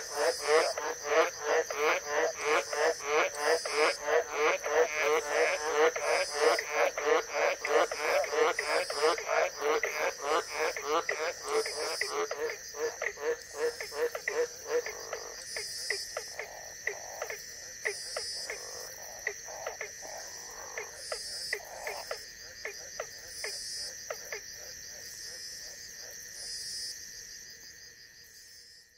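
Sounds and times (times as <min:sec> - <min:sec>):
frogs giving short sharp calls: 0:00.0 - 0:24.7
frogs croaking: 0:00.0 - 0:28.9
night insects droning: 0:00.0 - 0:28.9.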